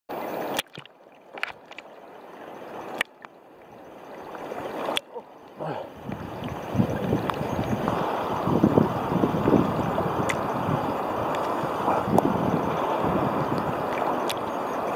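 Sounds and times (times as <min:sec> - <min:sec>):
seawater sloshing and lapping: 0:02.6 - 0:14.9.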